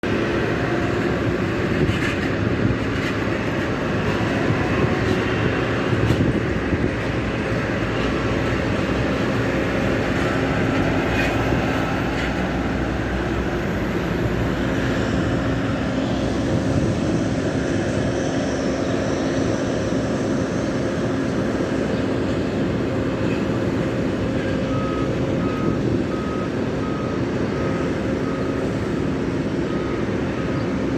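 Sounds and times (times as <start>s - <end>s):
jet engines running at low power: 0.0s - 30.9s.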